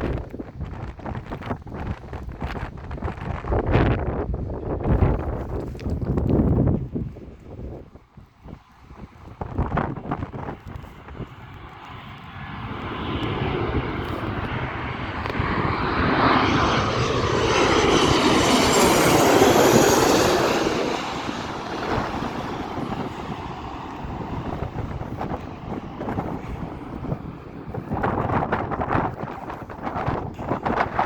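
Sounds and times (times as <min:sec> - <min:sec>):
wind on microphone: 0:00.0 - 0:31.0
jet airliner flying past: 0:00.1 - 0:31.0.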